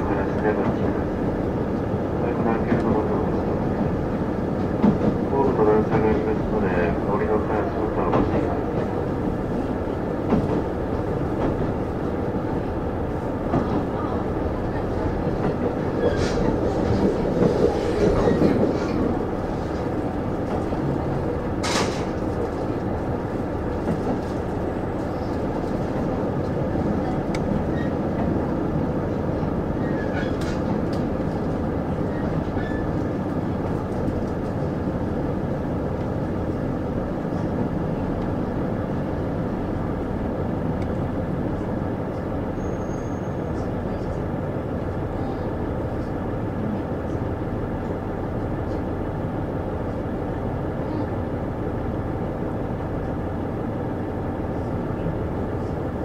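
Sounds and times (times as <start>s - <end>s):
diesel railcar running noise: 0.0s - 56.0s.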